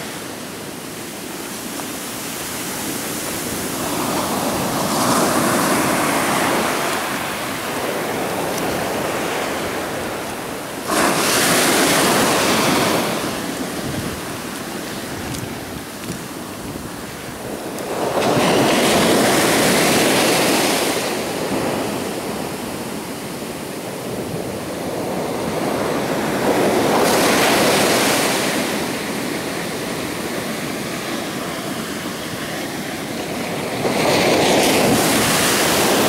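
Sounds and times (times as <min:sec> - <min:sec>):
ocean waves breaking: 0:00.0 - 0:36.0.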